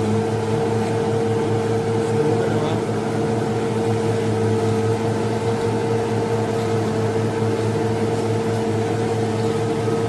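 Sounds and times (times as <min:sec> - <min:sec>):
small electric motor humming: 0:00.0 - 0:10.0.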